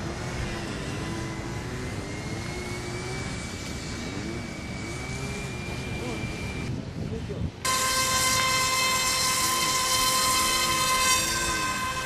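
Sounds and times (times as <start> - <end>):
model jet engines whining: 0.0 - 12.0.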